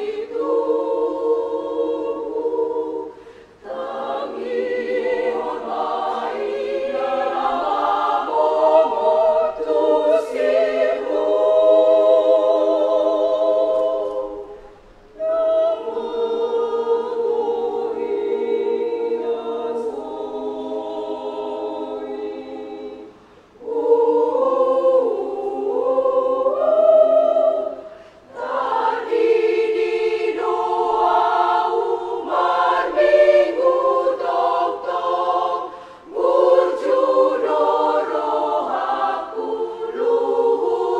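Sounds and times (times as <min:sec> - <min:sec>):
women's choir singing a cappella: 0:00.0 - 0:40.9.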